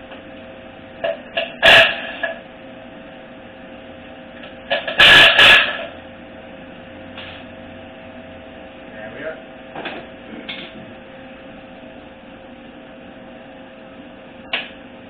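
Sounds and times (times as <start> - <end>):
shop hum: 0.0 - 15.0.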